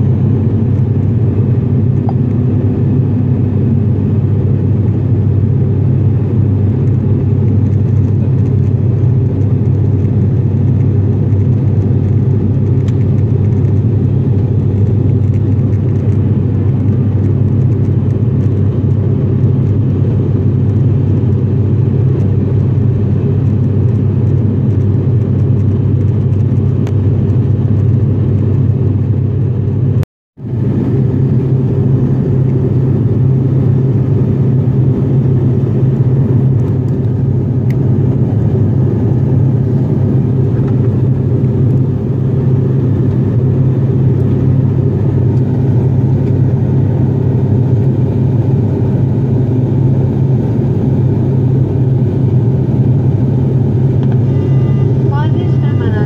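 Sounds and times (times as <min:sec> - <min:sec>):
turboprop engine drone in cabin: 0:00.0 - 0:56.0.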